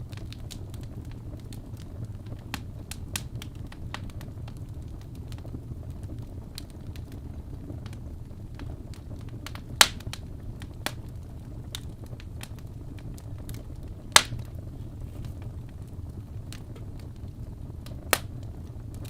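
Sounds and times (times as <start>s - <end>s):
burning logs popping: 0.0s - 19.0s
wood fire burning: 0.0s - 19.0s.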